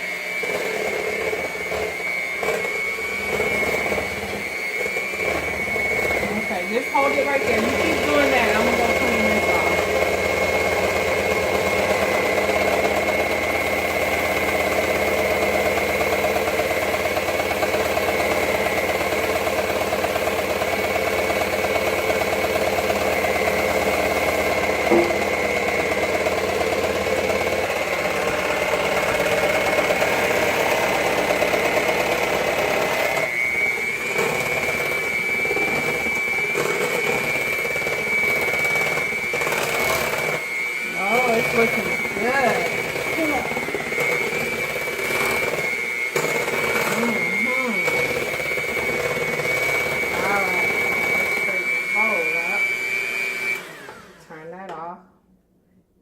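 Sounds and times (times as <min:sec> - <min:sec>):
electric mixer motor whine: 0:00.0 - 0:54.7.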